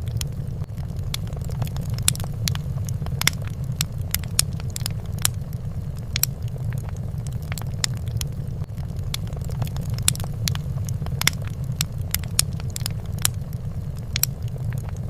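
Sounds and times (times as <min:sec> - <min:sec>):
fire crackling and popping: 0:00.0 - 0:15.0
low rumble: 0:00.0 - 0:15.0.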